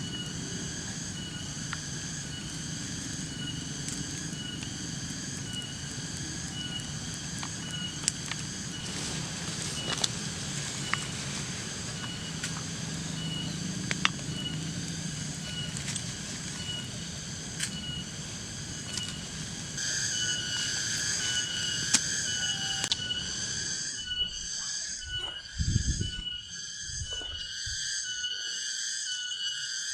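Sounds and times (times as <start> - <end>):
low rumble: 0.0 - 24.4
high chirring: 0.0 - 28.3
insects chirping: 0.0 - 29.9.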